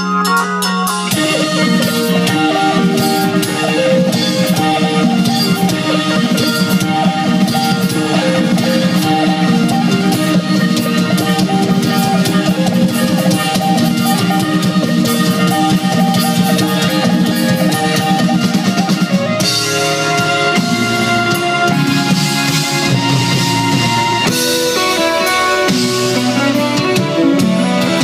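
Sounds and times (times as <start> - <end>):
drum kit: 0.0 - 28.0
electric bass: 0.0 - 28.0
electric guitar: 0.0 - 28.0
violin: 1.1 - 28.0.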